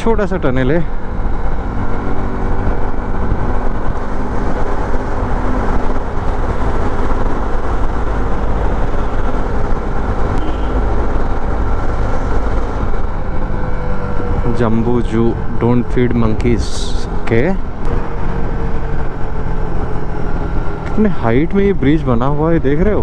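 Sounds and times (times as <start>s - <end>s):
road noise: 0.0s - 23.0s
wind noise: 0.9s - 23.0s.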